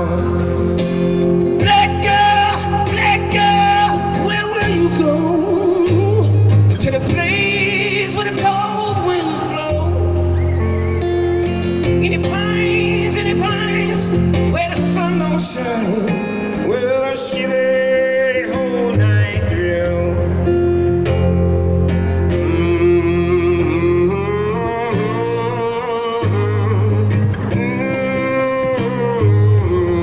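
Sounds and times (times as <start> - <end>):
man singing: 0.0 - 20.8, 22.2 - 30.0
acoustic guitar: 0.0 - 30.0.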